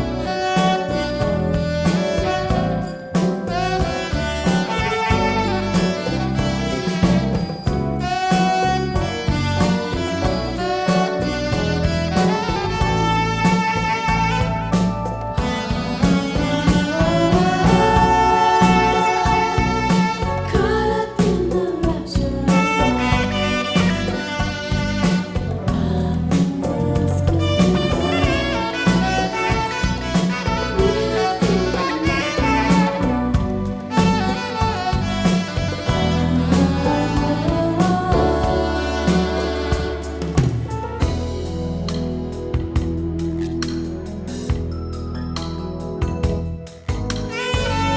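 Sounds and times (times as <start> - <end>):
bass: 0.0 - 47.9
drums: 0.0 - 47.9
saxophone melody: 0.0 - 47.9.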